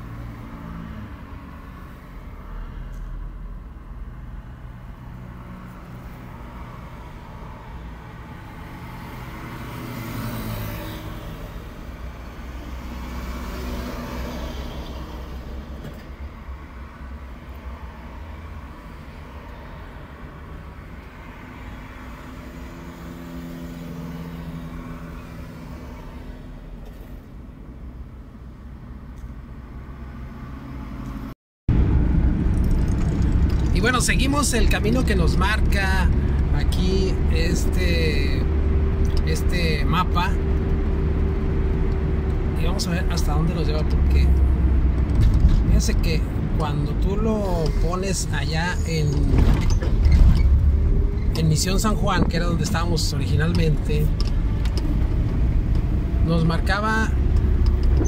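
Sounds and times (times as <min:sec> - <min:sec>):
car engine rumble: 0:00.0 - 0:58.0
road noise inside car: 0:00.0 - 0:58.0.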